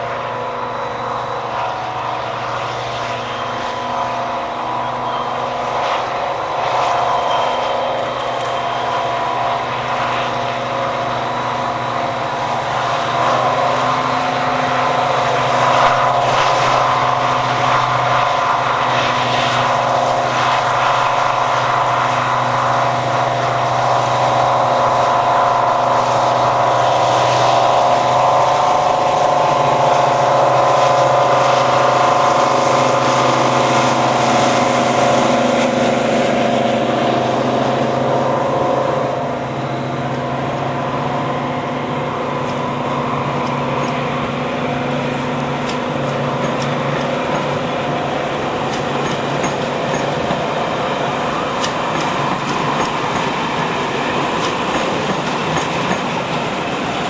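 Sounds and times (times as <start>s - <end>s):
diesel locomotive passing: 0.0s - 57.0s.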